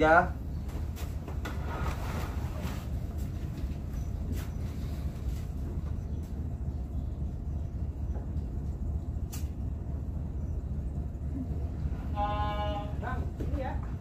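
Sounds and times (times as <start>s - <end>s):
low drone of ship diesel engines: 0.0s - 14.0s.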